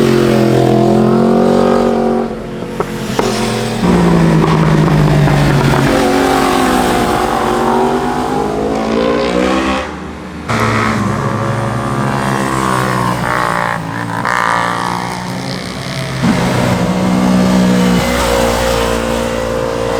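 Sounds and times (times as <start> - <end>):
motorcycle engine accelerating: 0.0 - 9.9, 10.5 - 19.9.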